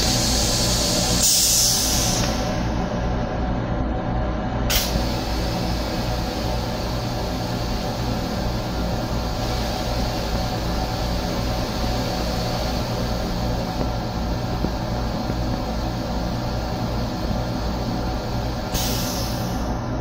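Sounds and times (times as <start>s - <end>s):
train interior rumble and hiss: 0.0s - 20.0s.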